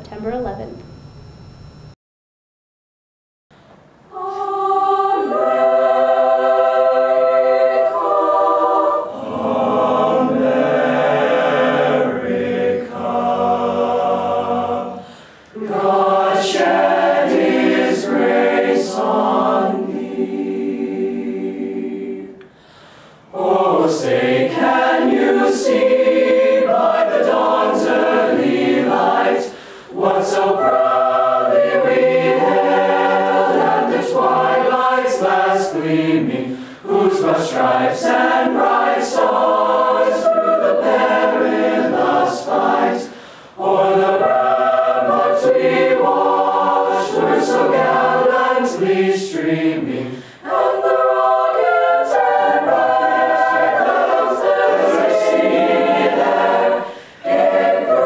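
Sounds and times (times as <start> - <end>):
choir singing held notes: 4.0 - 58.0.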